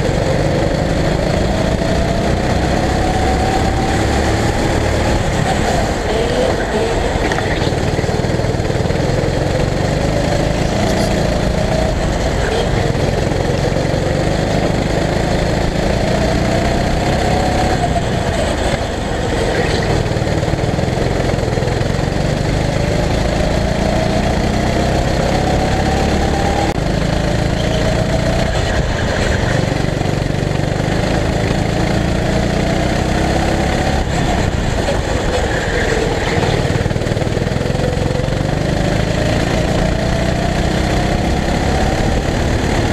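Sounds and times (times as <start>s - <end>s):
go-kart engine revving: 0.0s - 42.9s.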